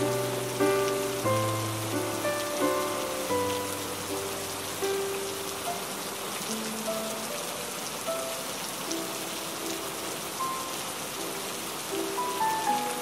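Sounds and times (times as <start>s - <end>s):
soft melodic notes: 0.0s - 13.0s
steady rain falling: 0.0s - 13.0s.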